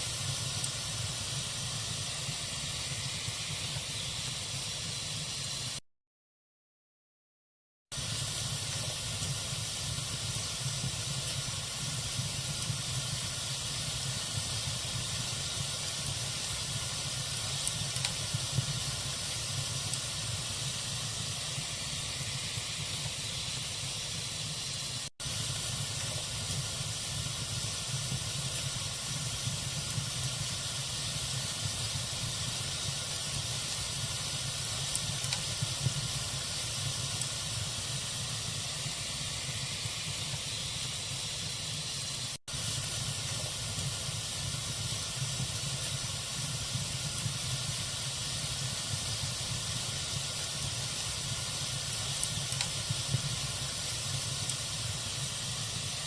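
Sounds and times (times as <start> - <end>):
log fire crackling and hissing: 0.0 - 5.8, 7.9 - 56.0.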